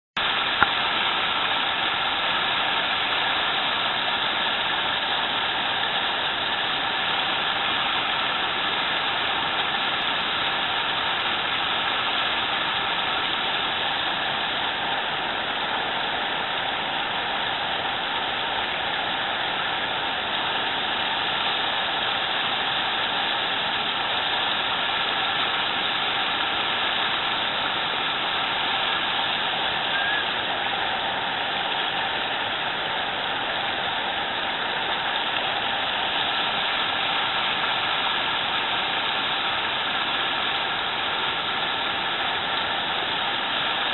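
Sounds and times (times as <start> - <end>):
stream rushing over rocks: 0.2 - 43.9.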